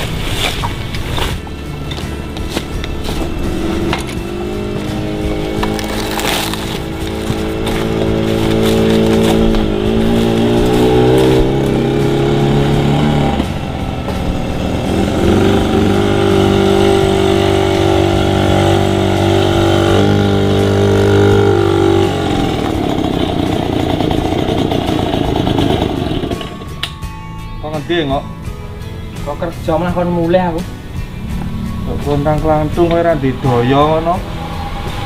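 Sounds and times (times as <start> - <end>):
motorcycle engine running: 0.0 - 27.2, 28.9 - 35.0.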